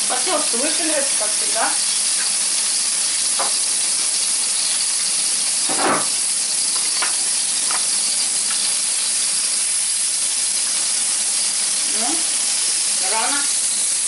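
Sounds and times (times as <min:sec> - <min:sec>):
tomato slices sizzling on grill: 0:00.0 - 0:14.0.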